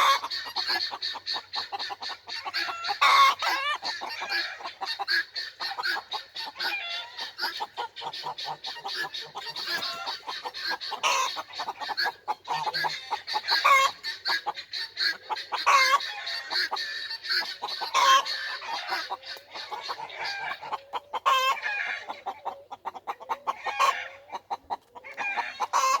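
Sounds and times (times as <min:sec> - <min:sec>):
chickens and guinea fowl chattering: 0:00.0 - 0:26.0.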